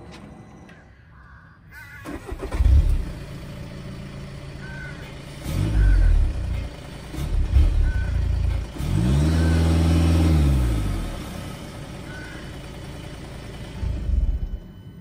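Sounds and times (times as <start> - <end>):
diesel engine revving: 2.1 - 15.0.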